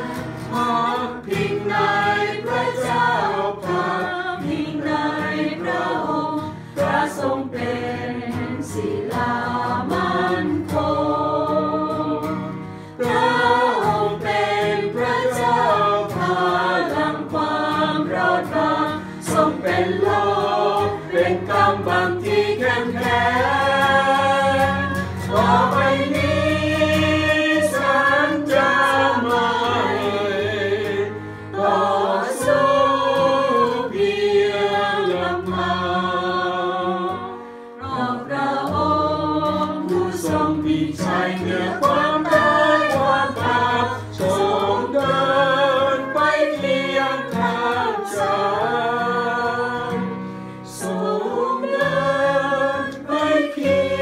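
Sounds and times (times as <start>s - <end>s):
women singing a hymn: 0.0s - 54.0s.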